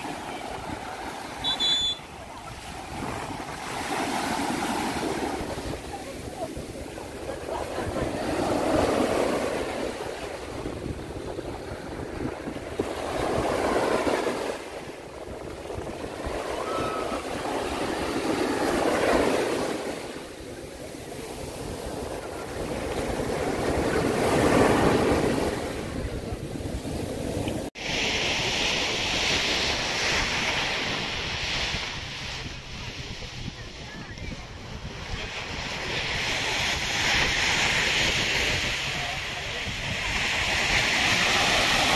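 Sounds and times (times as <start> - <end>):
waves breaking on sand: 0.0 - 41.9.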